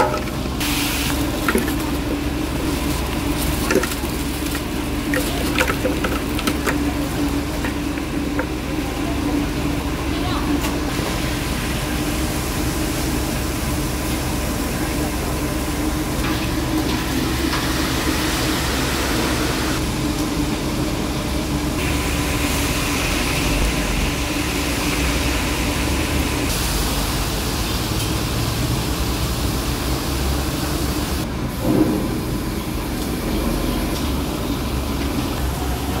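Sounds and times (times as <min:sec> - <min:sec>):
gas burners and fans humming: 0:00.0 - 0:36.0.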